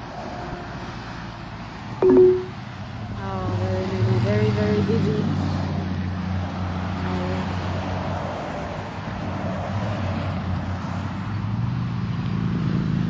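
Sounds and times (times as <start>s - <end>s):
cars passing on busy road: 0.0s - 13.0s.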